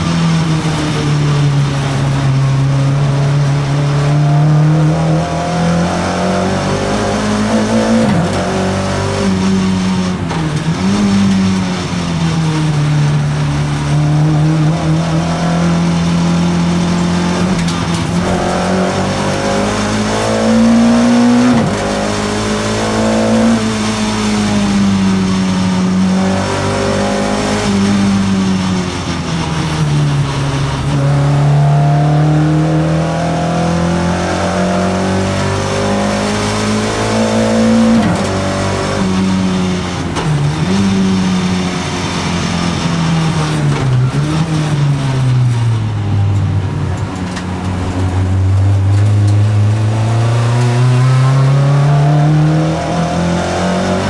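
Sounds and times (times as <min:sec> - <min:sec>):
race car engine at high revs: 0:00.0 - 0:54.0.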